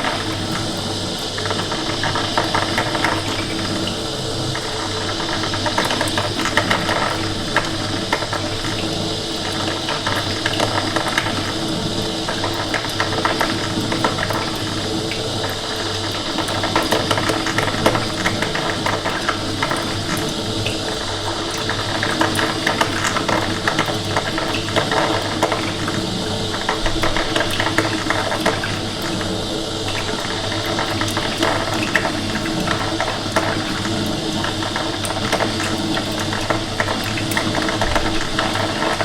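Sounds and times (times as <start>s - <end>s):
coffee machine humming: 0.0s - 39.0s.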